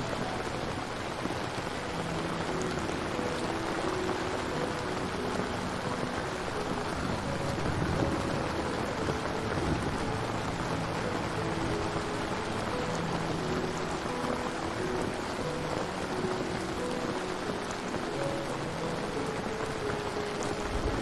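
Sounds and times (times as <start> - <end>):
soft piano notes: 0.0 - 21.0
steady rain falling: 0.0 - 21.0.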